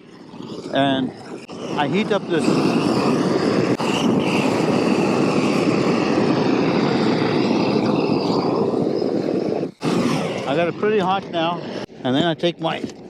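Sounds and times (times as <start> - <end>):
gas torch flame rushing: 0.0 - 13.0.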